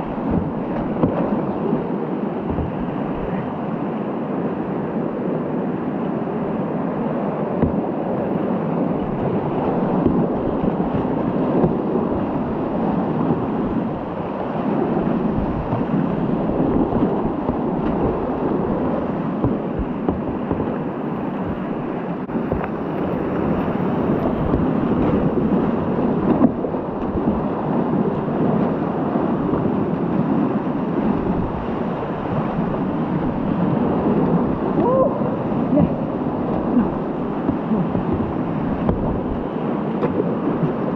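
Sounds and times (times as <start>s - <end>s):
paddle splashes: 0.0s - 40.9s
waves hitting boat: 0.0s - 40.9s
whitewater rapids rushing: 0.0s - 40.9s.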